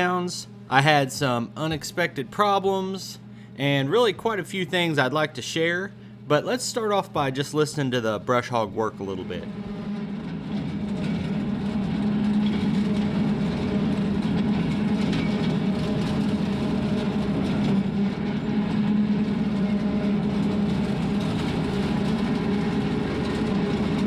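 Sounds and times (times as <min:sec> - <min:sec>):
tractor and rotary cutter drone: 0:00.0 - 0:24.0.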